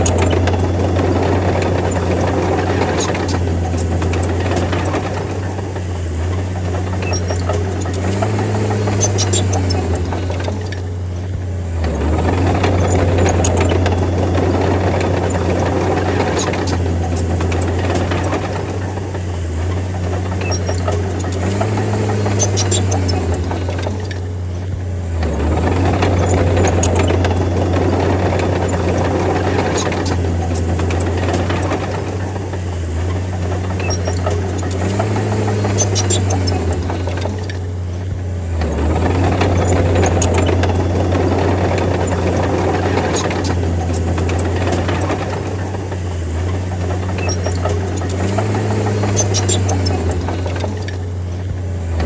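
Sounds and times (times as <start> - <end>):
bulldozer diesel engine running: 0.0 - 52.0
tracks and blade clanking: 0.0 - 52.0.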